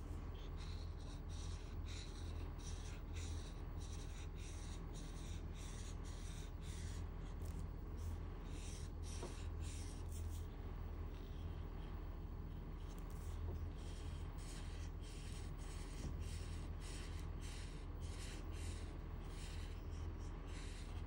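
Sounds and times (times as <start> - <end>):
steady low hum: 0.0 - 21.0
marker scratching on paper: 0.3 - 10.5, 12.5 - 21.0.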